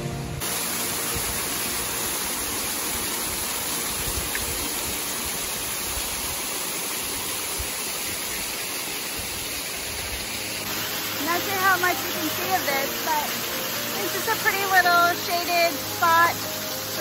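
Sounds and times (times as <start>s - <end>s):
small waterfall splashing on rocks: 0.4s - 17.0s.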